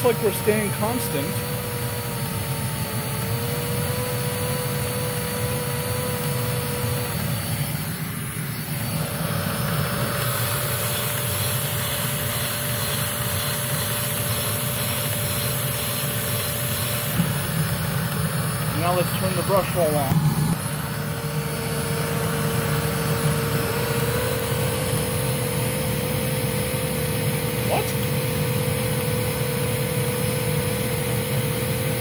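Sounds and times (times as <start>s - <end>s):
vacuum cleaner motor whining: 0.0s - 32.0s.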